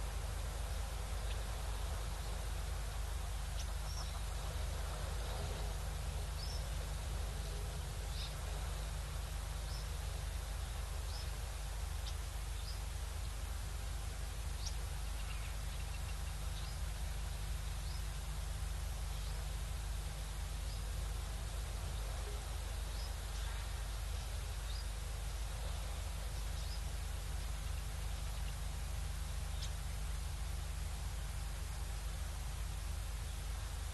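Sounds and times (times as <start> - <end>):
low rumble and hiss: 0.0 - 33.9
small birds chirping: 0.0 - 33.9.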